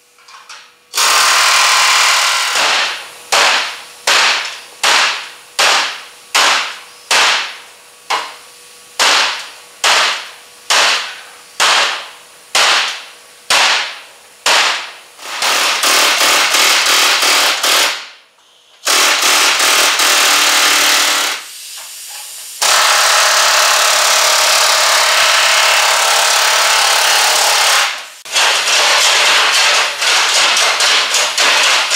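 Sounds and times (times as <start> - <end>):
air chisel hammering sheet steel: 1.0 - 8.3, 9.0 - 18.1, 18.8 - 21.5, 22.6 - 31.9.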